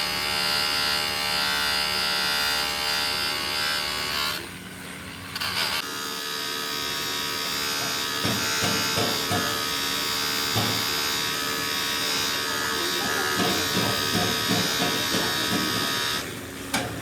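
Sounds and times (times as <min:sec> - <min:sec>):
electric motor humming: 0:00.0 - 0:16.6.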